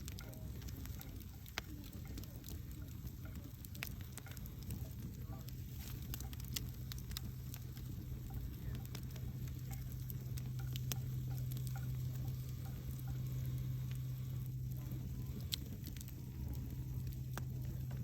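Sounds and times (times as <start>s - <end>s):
campfire crackling and popping: 0.0s - 18.0s
steady low hum: 0.0s - 18.0s.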